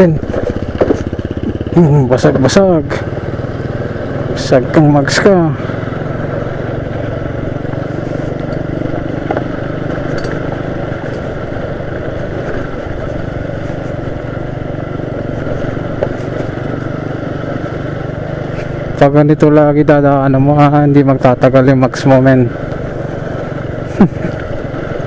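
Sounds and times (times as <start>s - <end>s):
small motorcycle engine: 0.0s - 25.0s.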